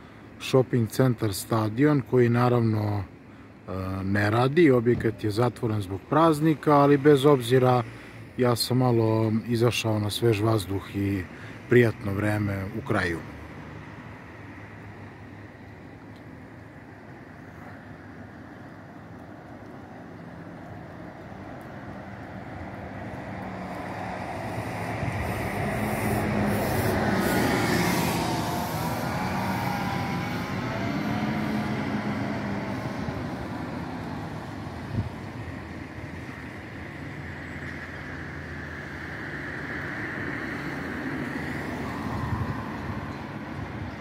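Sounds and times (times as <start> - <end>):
passing cars and bus: 0.0 - 44.0.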